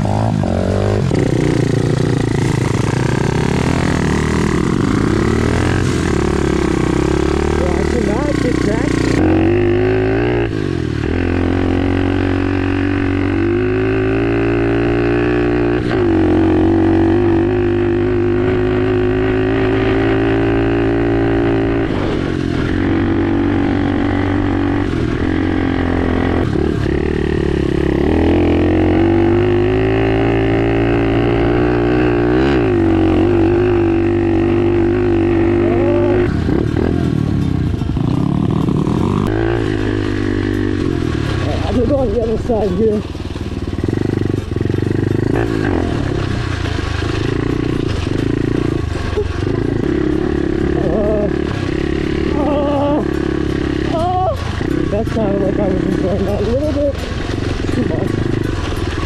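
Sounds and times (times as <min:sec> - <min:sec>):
small motorcycle engine running: 0:00.0 - 0:59.0.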